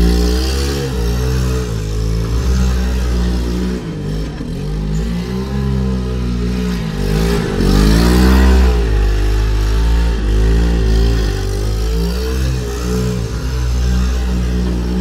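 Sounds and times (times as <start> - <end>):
go-kart engine revving: 0.0 - 15.0.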